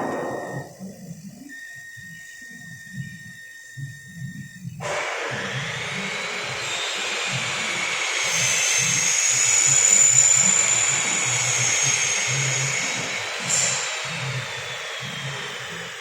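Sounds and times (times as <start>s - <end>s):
high machine whine: 0.0s - 16.0s.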